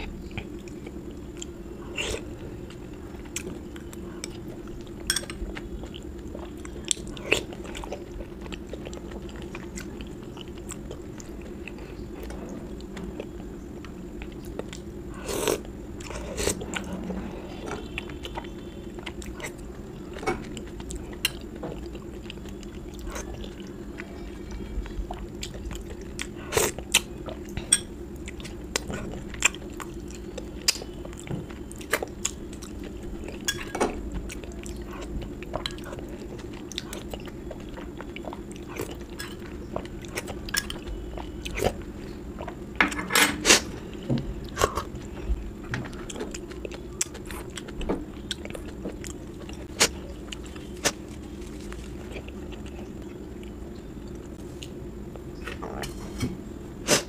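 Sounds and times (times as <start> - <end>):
low background hum: 0.0 - 57.0
chewing and biting food: 0.2 - 17.1, 17.8 - 42.7, 43.6 - 54.8.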